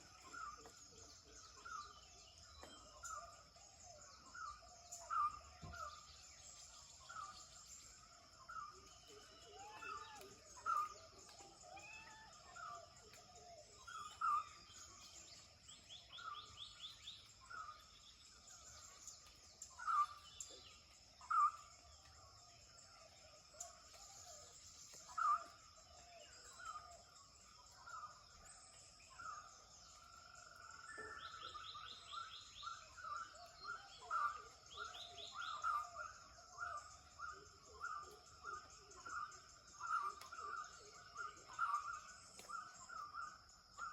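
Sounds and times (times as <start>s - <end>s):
birds calling: 0.0s - 43.9s.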